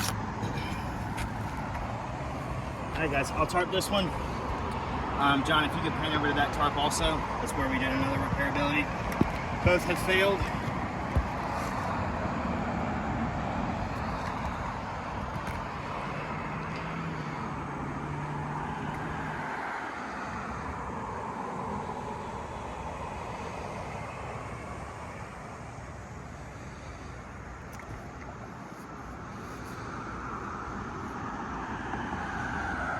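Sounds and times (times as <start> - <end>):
faint low engine hum: 0.0 - 31.3
distant traffic rumble: 0.0 - 32.9.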